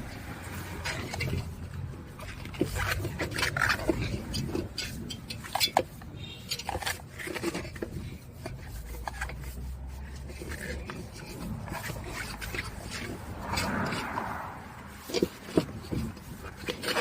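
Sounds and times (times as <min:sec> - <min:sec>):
tools clicking and rattling: 0:00.0 - 0:17.0.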